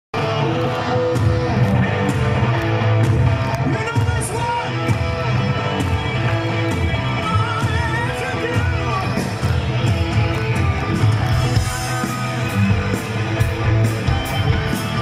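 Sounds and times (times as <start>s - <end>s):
bass guitar: 0.1s - 15.0s
distorted electric guitar riff: 0.1s - 15.0s
drums: 0.1s - 15.0s.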